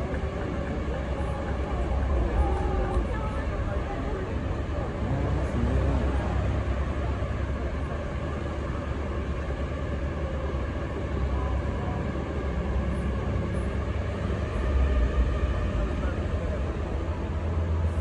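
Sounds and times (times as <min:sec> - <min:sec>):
faint voices of onlookers: 0:00.0 - 0:18.0
low city rumble: 0:00.0 - 0:18.0.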